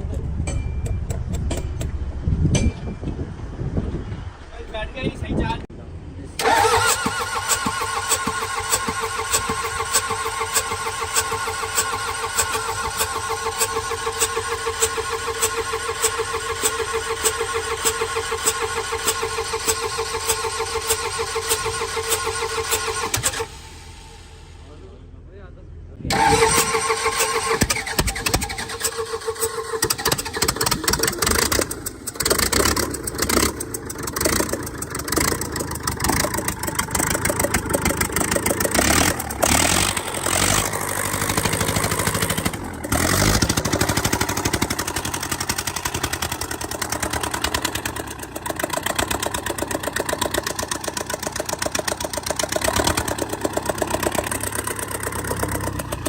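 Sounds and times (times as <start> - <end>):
engine starting and running: 0.0 - 56.0.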